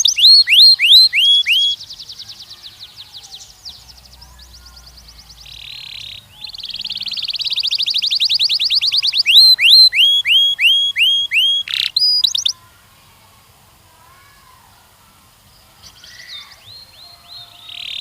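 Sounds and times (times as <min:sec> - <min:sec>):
canary singing: 0:00.0 - 0:12.7, 0:15.8 - 0:18.0.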